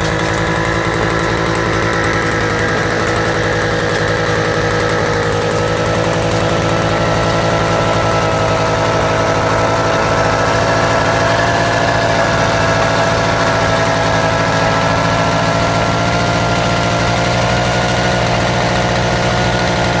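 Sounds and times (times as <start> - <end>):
stationary engine running: 0.0 - 20.0.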